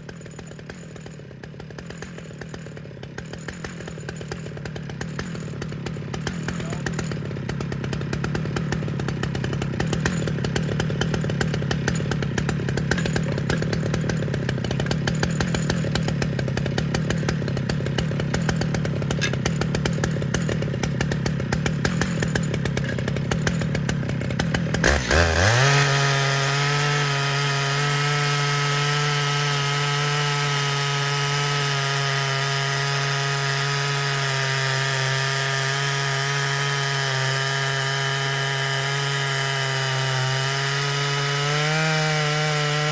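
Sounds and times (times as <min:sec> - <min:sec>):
chainsaw cutting log: 0:00.0 - 0:42.9.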